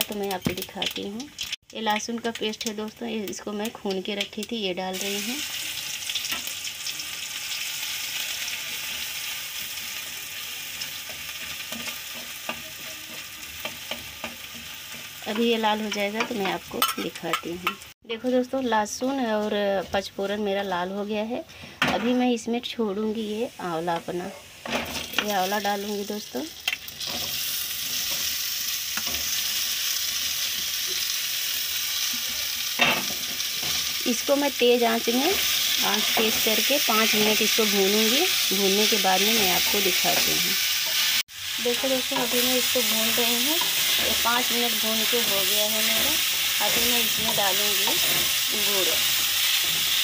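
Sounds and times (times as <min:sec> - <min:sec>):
paste sizzling in hot oil: 0:00.0 - 0:20.6, 0:23.1 - 0:50.0.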